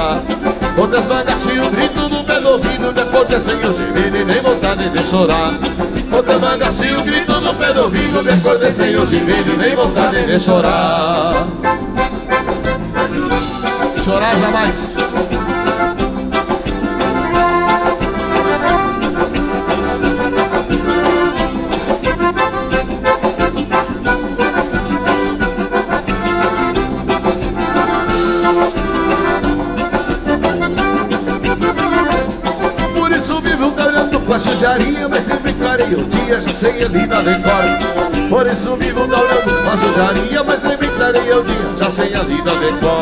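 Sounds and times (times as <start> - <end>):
accordions playing: 0.0 - 43.0
drums with steady beat: 0.0 - 43.0
electric guitar: 0.0 - 43.0.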